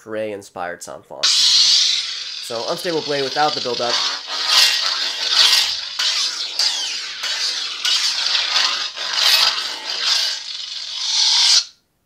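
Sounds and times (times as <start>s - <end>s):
crackling lightsaber hum: 1.2s - 11.7s.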